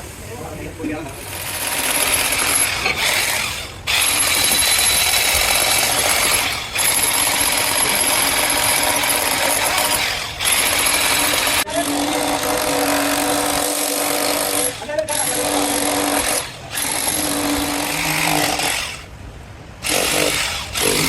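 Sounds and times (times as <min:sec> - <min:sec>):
power tool working metal: 0:01.3 - 0:19.1, 0:19.8 - 0:21.0.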